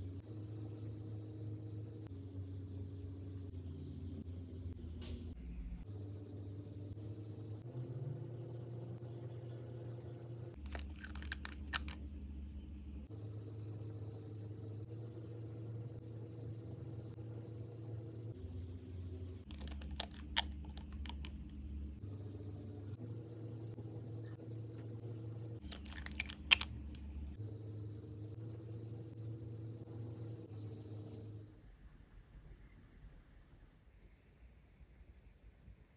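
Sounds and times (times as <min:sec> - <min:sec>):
low steady drone: 0:00.0 - 0:31.6.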